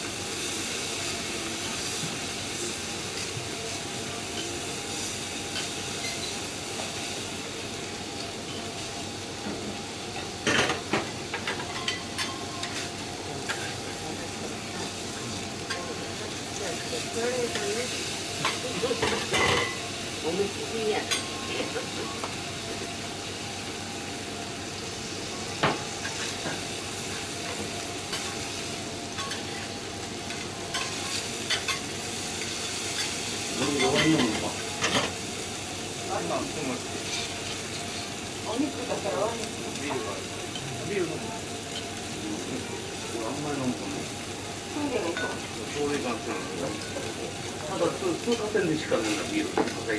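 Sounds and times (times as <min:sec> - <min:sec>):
steaks sizzling on a griddle: 0:00.0 - 0:49.9.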